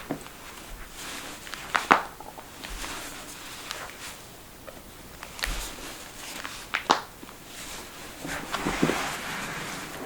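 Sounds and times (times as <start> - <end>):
hands handling skin: 0.0 - 9.0.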